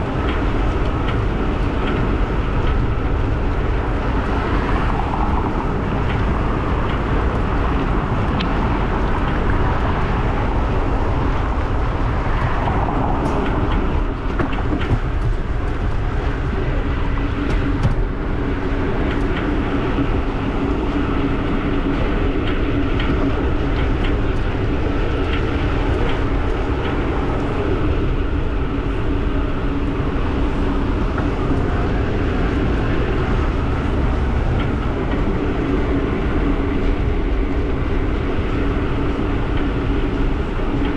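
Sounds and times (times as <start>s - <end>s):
constant motor hum: 0.0s - 40.9s
wind rumble on microphone: 0.0s - 40.9s.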